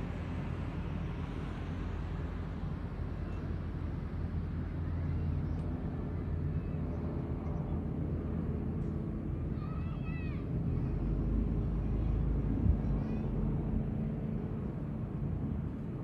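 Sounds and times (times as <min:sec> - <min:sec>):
outdoor crowd ambience: 0:00.0 - 0:16.0.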